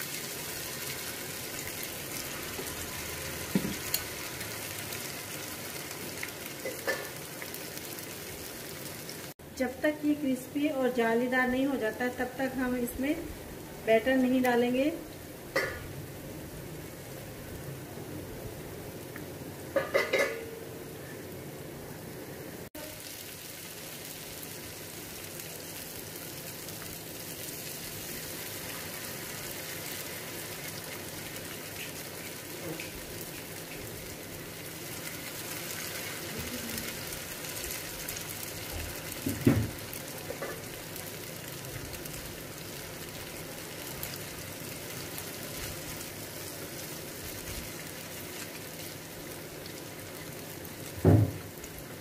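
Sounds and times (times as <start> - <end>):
batter sizzling in hot oil: 0.0 - 21.2, 22.6 - 52.0.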